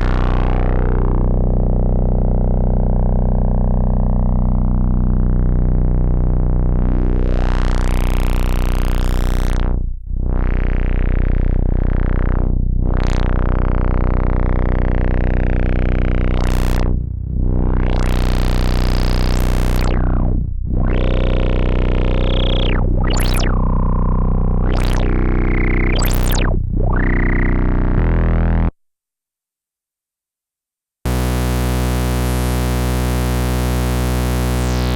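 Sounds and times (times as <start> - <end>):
synthesizer filter sweep: 0.0 - 28.7, 31.1 - 34.9.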